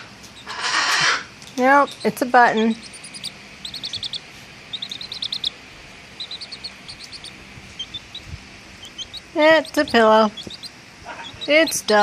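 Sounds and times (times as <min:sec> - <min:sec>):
chick peeping: 0:00.0 - 0:12.0.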